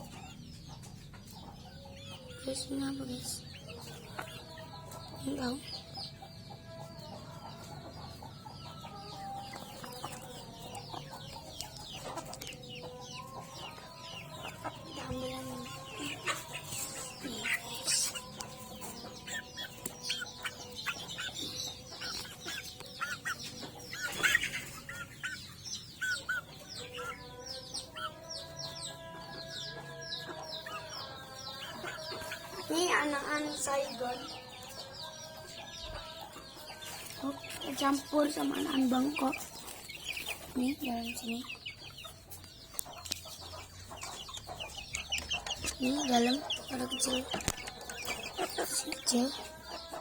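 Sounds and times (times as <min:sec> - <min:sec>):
chickens clucking: 0:00.0 - 0:50.0
chickens squawking: 0:00.0 - 0:50.0.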